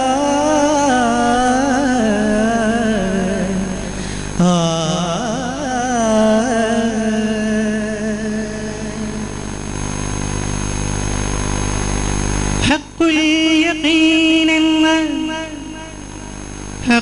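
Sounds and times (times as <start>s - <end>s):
person singing: 0.0s - 9.6s, 12.6s - 17.0s
low hum: 0.0s - 17.0s.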